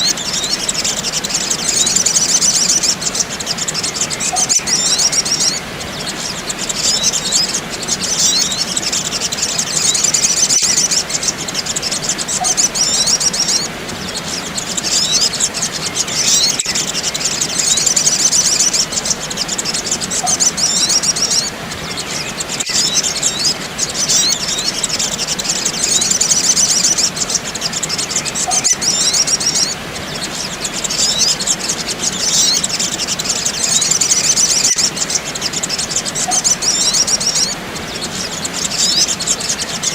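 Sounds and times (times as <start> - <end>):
birds twittering chirps: 0.0 - 39.9.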